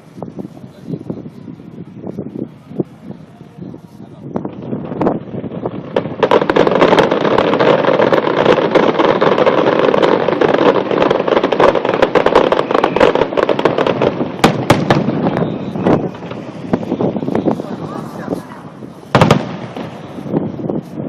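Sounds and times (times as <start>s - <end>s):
fireworks bangs and crackling: 0.0s - 21.0s
sharp firework reports: 0.0s - 21.0s.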